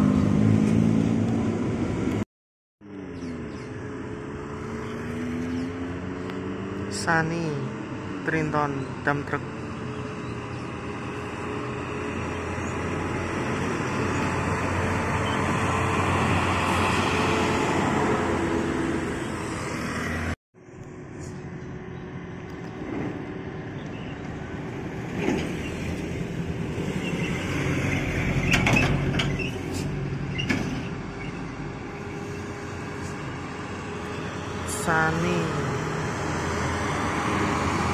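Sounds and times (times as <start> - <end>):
truck approaching: 0.0 - 2.2, 2.8 - 37.9
tyre and road noise: 0.0 - 2.2, 2.8 - 37.9
dump truck diesel engine: 3.1 - 37.9.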